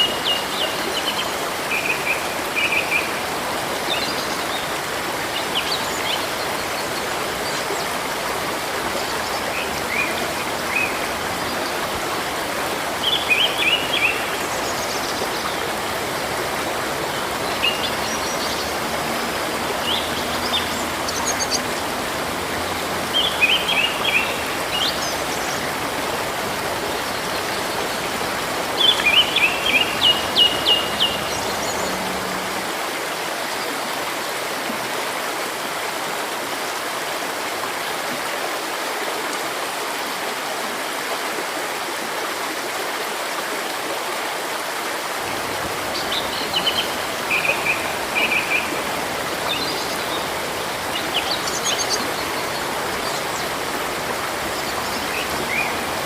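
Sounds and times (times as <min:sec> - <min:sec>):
river water flowing: 0:00.0 - 0:56.0.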